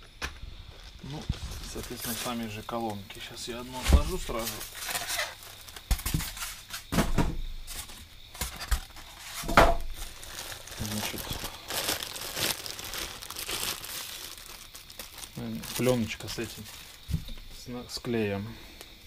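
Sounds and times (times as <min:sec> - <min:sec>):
plastic packaging crinkling: 0:00.7 - 0:06.8, 0:07.7 - 0:17.5.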